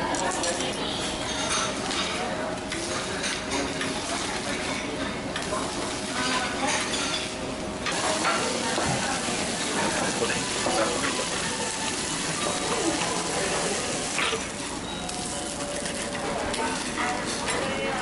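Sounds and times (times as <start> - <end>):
batter sizzling on a griddle: 1.3 - 18.0
bacon frying: 2.6 - 18.0
stirring and scraping on griddle: 2.7 - 18.0.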